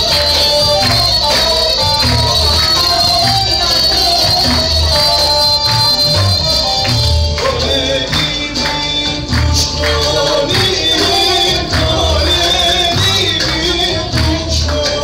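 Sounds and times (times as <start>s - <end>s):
melody line: 0.0s - 14.9s.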